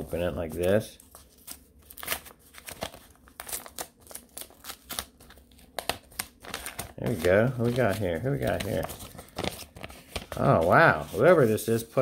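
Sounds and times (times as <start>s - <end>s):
paper rustling: 0.0s - 12.0s
paper envelope tearing: 0.2s - 11.6s.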